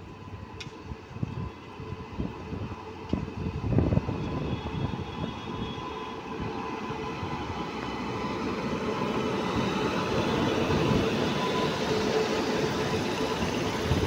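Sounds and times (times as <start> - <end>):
locomotive steady hum: 0.0 - 14.0
wheels rumbling on rail: 0.0 - 14.0.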